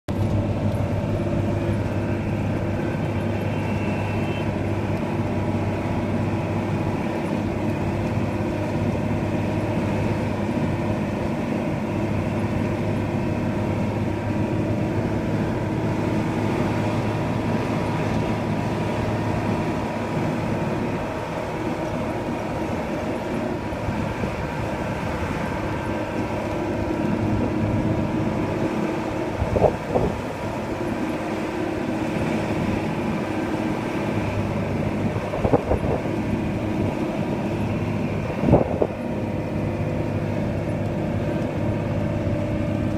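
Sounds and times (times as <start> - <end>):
road noise: 0.0 - 42.9
truck engine running: 0.0 - 42.9.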